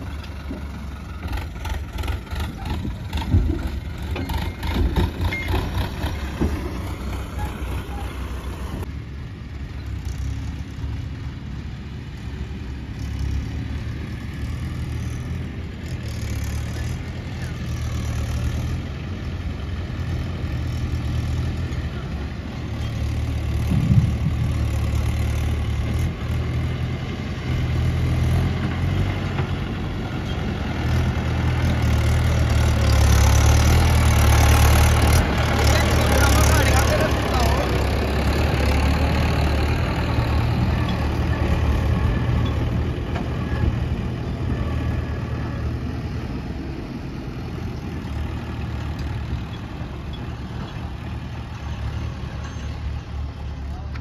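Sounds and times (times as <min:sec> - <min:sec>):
diesel tractor engine: 0:00.0 - 0:54.0.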